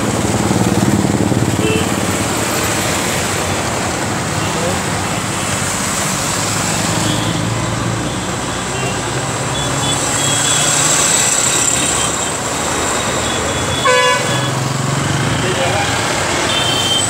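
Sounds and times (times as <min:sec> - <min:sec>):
passing vehicles rushing: 0:00.0 - 0:17.0.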